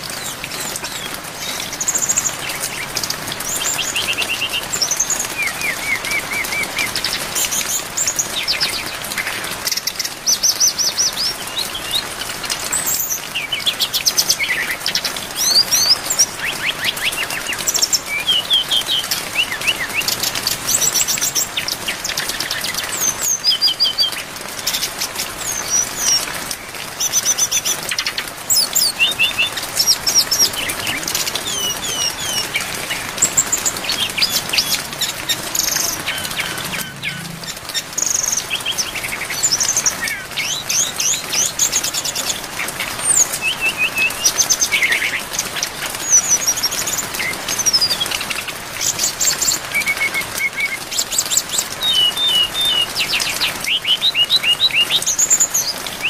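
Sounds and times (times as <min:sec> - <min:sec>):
bird singing trills and whistles: 0:00.0 - 0:56.0
rain hiss: 0:00.0 - 0:56.0.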